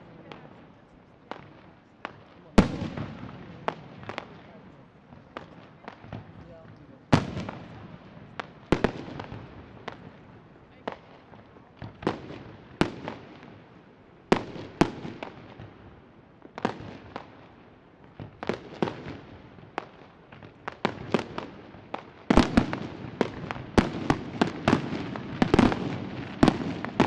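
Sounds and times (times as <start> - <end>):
fireworks bursting with bangs: 0.0 - 27.0.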